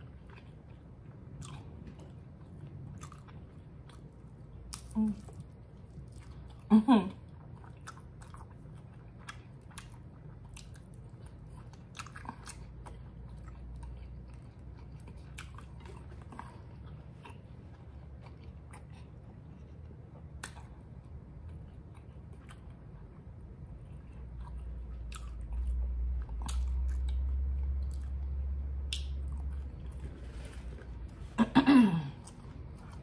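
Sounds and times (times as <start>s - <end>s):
low steady hum: 0.0s - 33.0s
person chewing food: 0.0s - 33.0s.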